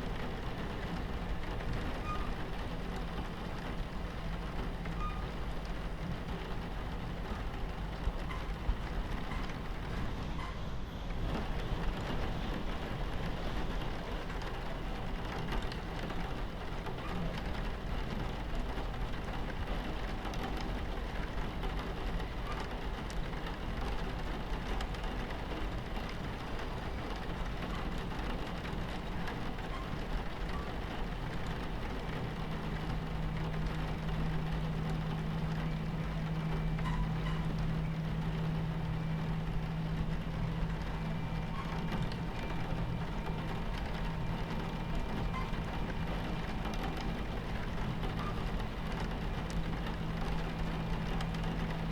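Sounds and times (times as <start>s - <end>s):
rain on window: 0.0s - 51.9s
train rumbling on tracks: 0.0s - 51.9s.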